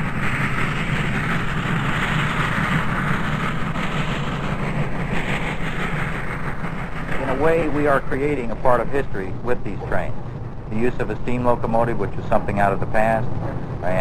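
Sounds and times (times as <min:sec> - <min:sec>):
steam train running: 0:00.0 - 0:14.0.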